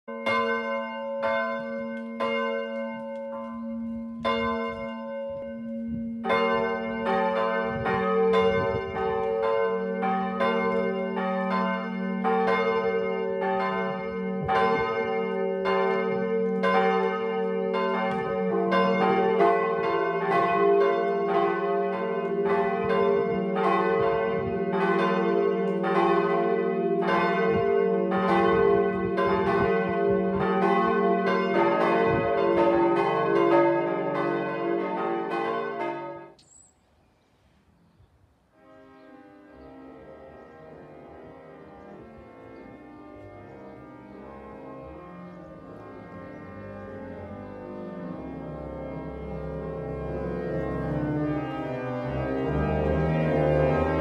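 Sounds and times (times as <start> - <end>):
church bells ringing: 0.1 - 36.4, 38.6 - 54.0.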